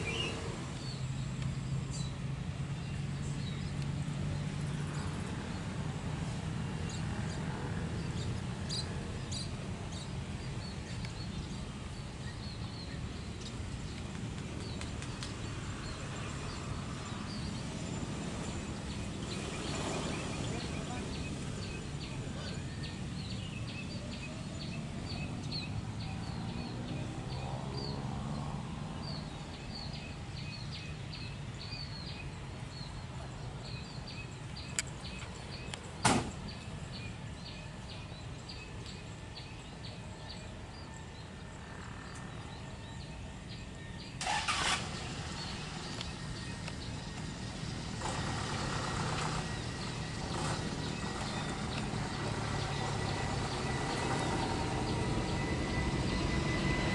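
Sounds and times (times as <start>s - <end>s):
distant traffic rumble: 0.0s - 56.9s.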